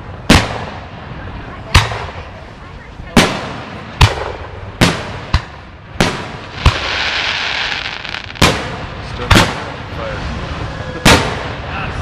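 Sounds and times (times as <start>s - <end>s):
fireworks bangs: 0.0s - 10.4s, 11.0s - 11.7s.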